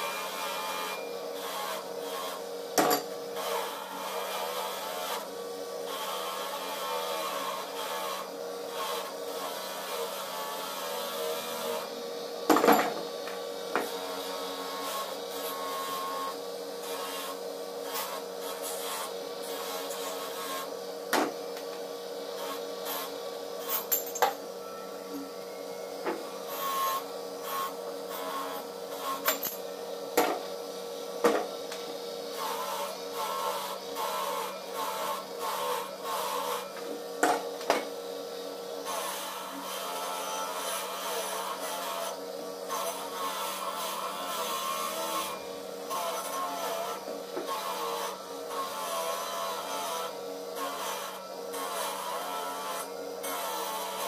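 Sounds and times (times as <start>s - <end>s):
electric grinder humming: 0.0s - 54.0s.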